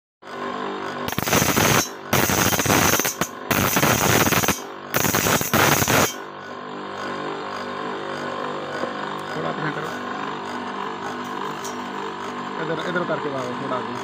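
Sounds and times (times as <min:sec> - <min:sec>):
grinding wheel motor hum: 0:00.2 - 0:14.0
saw blade grinding: 0:00.3 - 0:14.0.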